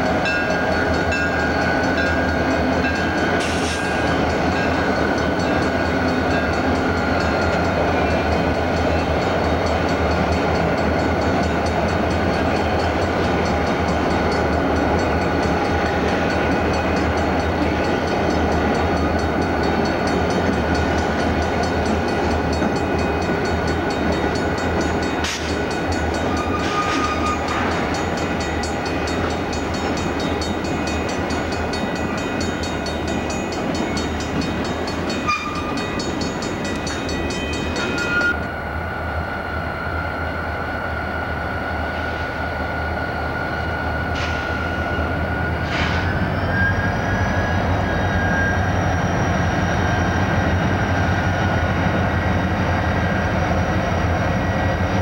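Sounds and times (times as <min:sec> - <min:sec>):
locomotive engines humming: 0:00.0 - 0:55.0
train wheel and rail noise: 0:00.0 - 0:55.0.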